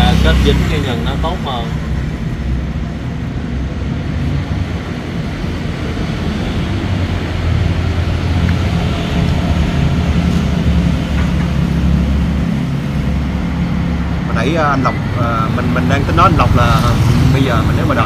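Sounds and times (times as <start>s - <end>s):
low rumble of vehicle engines: 0.0s - 18.0s.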